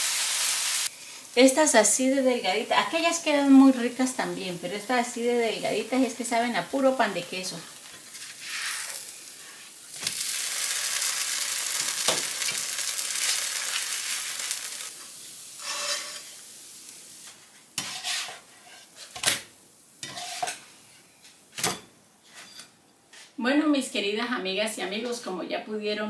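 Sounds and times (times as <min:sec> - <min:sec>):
food sizzling in a pan: 0:00.0 - 0:21.5.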